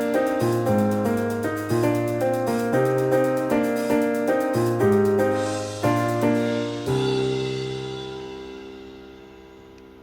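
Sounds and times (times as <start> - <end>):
gentle piano melody with bass: 0.0 - 10.0.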